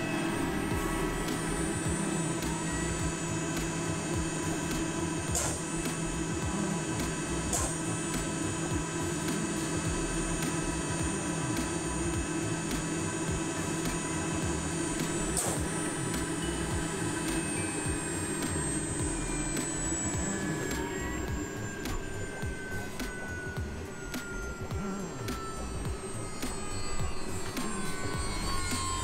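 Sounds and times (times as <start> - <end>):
blower motor humming: 0.0 - 29.0.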